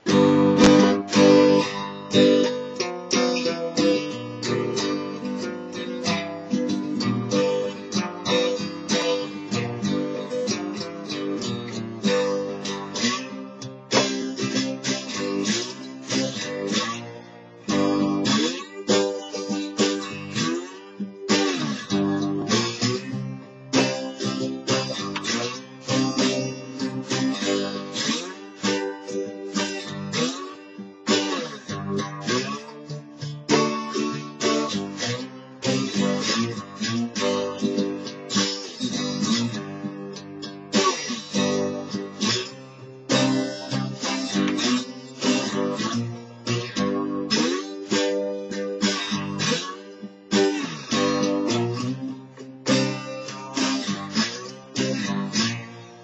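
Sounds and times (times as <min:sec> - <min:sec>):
slide acoustic guitar: 0:00.0 - 0:56.0.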